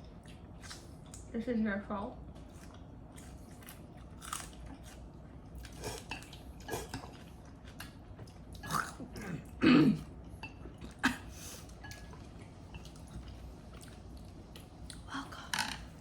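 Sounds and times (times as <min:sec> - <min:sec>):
chewing and mouth noises: 0:00.0 - 0:01.3, 0:02.3 - 0:11.0, 0:11.6 - 0:15.1.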